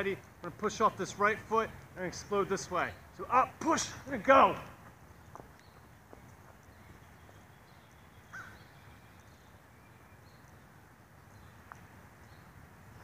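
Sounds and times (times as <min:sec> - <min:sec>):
distant bird calls: 0:00.0 - 0:13.0.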